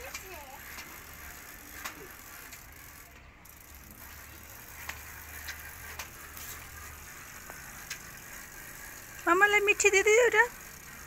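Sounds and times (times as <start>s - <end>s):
bicycle rolling over tiled floor: 0.0s - 11.0s
bike clicks and rattles: 0.0s - 11.0s.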